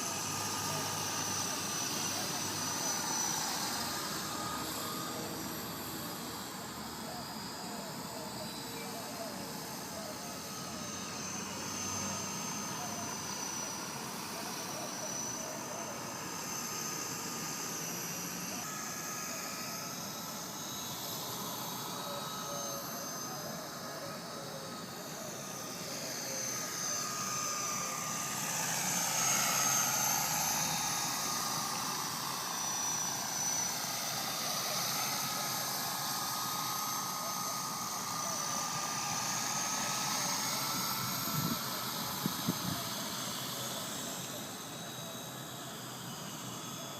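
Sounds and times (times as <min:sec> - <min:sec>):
rc helicopter rotor whine: 0:00.0 - 0:46.9.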